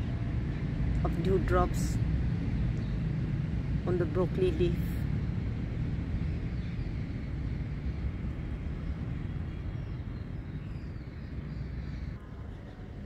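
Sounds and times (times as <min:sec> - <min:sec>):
distant engine rumble: 0:00.0 - 0:13.0.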